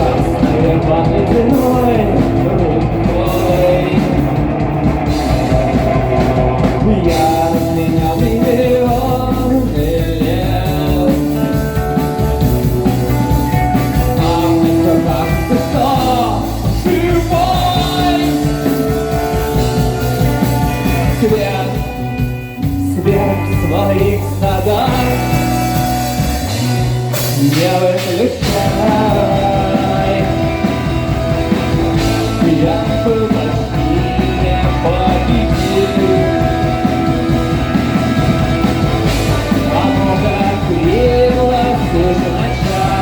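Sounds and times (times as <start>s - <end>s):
instrumental rock music: 0.0s - 43.0s.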